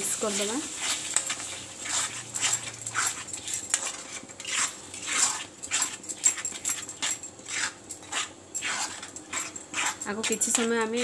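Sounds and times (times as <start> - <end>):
paste frying: 0.0 - 11.0
spatula scraping in a wok: 0.0 - 11.0.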